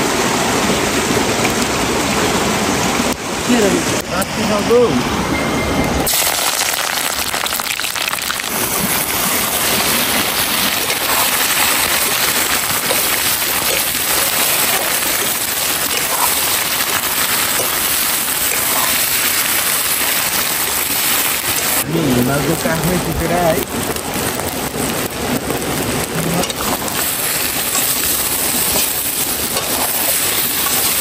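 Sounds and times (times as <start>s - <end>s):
oil sizzling in a wok: 6.0s - 31.0s.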